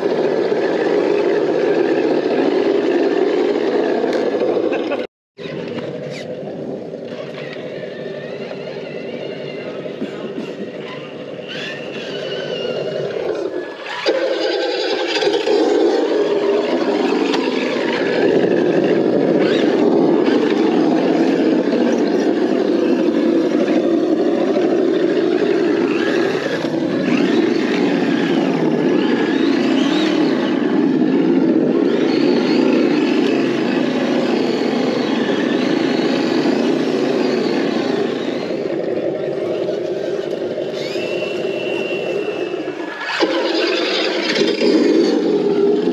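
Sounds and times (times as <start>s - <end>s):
simulated engine rumble from speaker: 0.0s - 45.9s.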